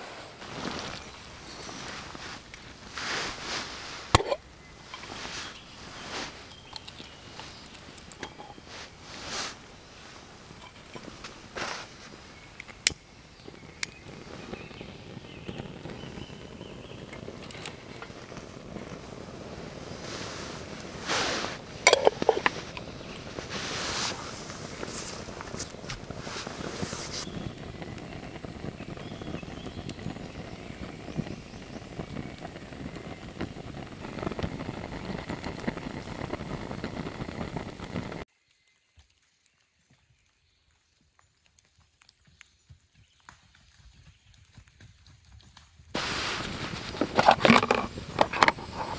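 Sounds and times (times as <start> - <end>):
fire crackling: 0.0 - 38.3, 45.5 - 48.9
rush of flame: 0.0 - 38.3, 46.0 - 48.9.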